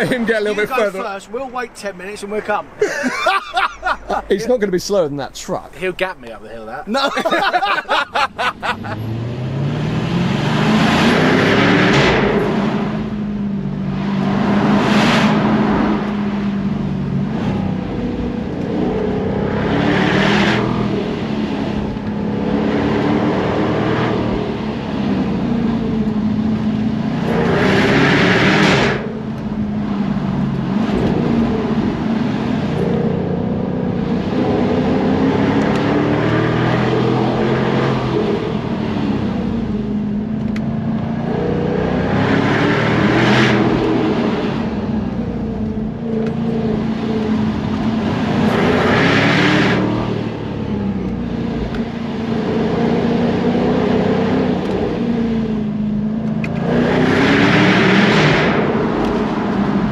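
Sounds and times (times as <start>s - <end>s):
road noise: 0.0s - 59.9s
car engine revving through gears: 7.2s - 59.9s.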